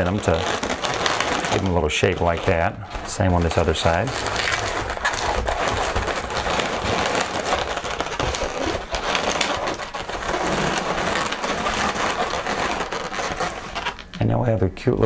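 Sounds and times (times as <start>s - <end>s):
balloons crackling and squeaking: 0.0s - 15.0s.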